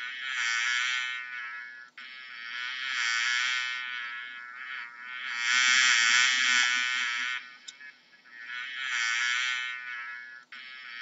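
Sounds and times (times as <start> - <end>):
bee buzzing in flight: 0.0 - 7.6, 8.3 - 11.0.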